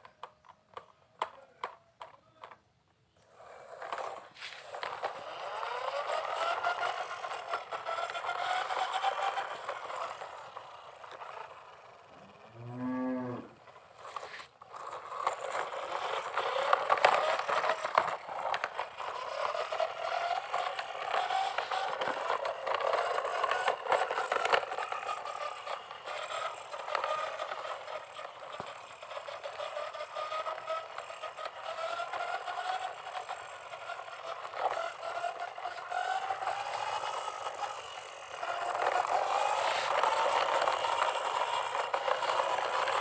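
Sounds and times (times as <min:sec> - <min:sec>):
toy electric motor whining: 0:00.0 - 0:02.6, 0:03.2 - 0:43.0
plastic rattling and scraping: 0:03.3 - 0:11.8, 0:13.6 - 0:43.0.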